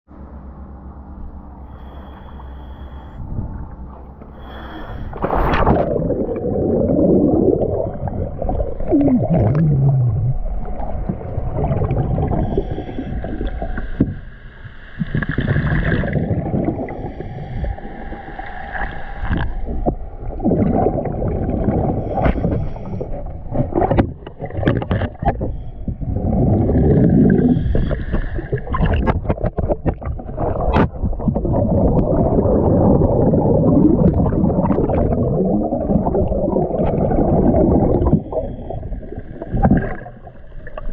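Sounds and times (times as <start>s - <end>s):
water churning and gurgling: 1.4s - 40.9s.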